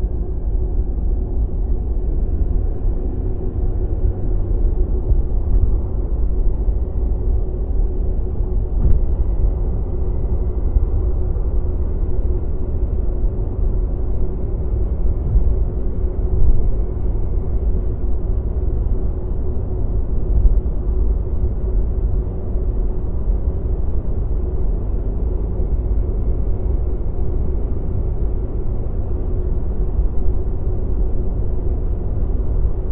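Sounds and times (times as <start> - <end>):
deep rumble: 0.0 - 32.9
faint constant hum: 0.0 - 32.9.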